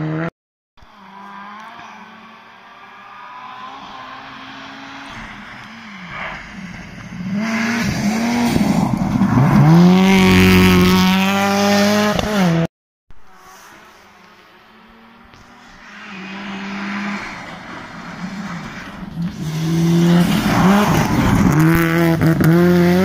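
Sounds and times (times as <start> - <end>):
rally car engine at high revs: 0.0 - 12.7, 13.7 - 23.0.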